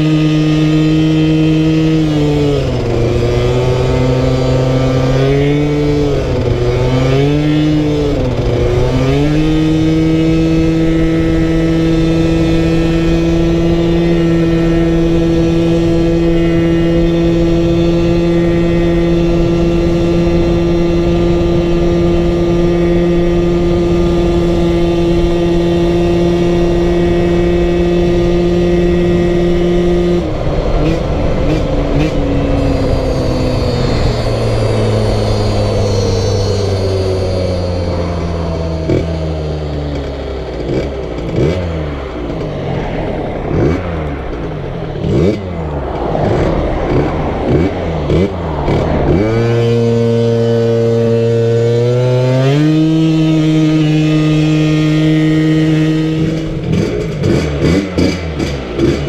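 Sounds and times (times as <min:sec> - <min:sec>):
scooter engine revving: 0:00.0 - 0:59.0
wind buffeting microphone: 0:00.0 - 0:59.0.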